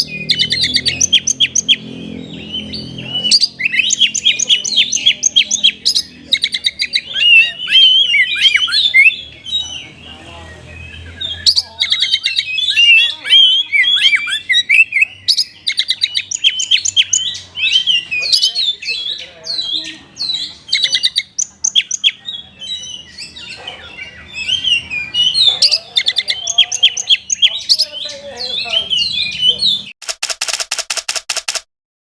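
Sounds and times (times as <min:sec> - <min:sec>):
bird singing with chirps and trills: 0:00.0 - 0:30.0.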